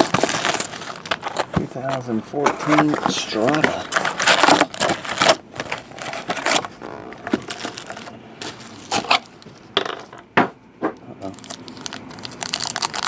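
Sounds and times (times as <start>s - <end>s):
card packaging crinkling and rustling: 0.0s - 9.8s, 11.2s - 13.0s.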